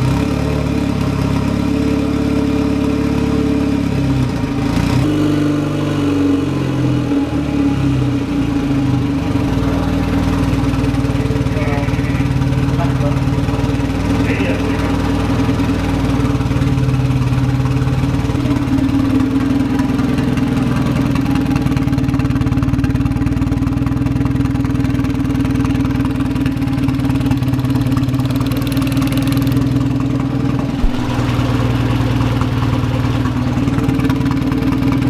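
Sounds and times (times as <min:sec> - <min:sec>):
turbocharged engine idling: 0:00.0 - 0:35.0.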